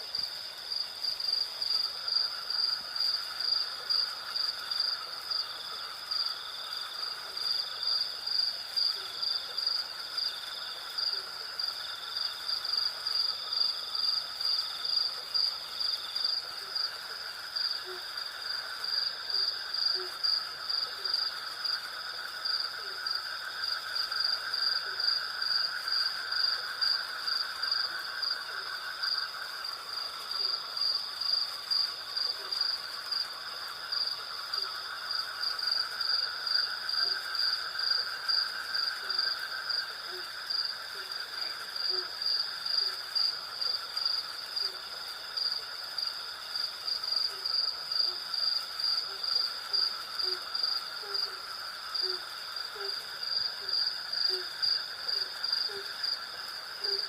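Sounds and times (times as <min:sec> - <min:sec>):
low continuous insect buzz: 0:00.0 - 0:57.0
shrill pulsing insect trill: 0:00.0 - 0:57.0.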